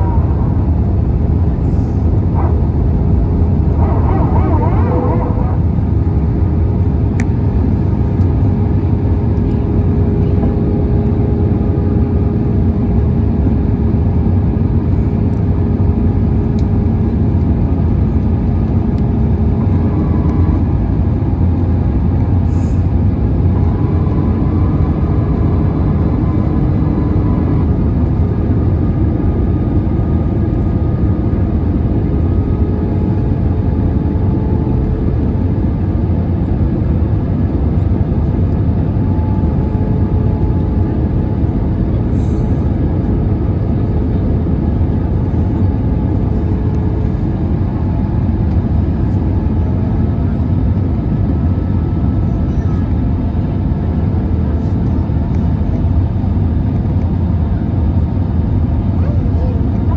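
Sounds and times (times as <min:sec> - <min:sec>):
aircraft cabin engine drone: 0:00.0 - 0:59.9.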